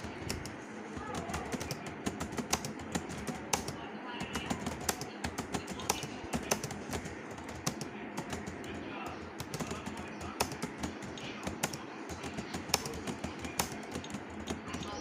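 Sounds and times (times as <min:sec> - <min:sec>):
fast keyboard typing: 0:00.0 - 0:15.0.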